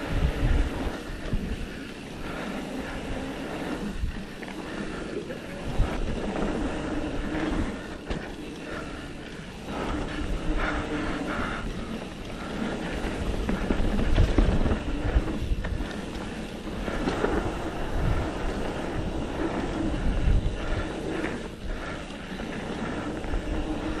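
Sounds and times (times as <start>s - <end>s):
tyres rolling on dirt: 0.0s - 24.0s
wind rushing over microphone: 0.0s - 24.0s.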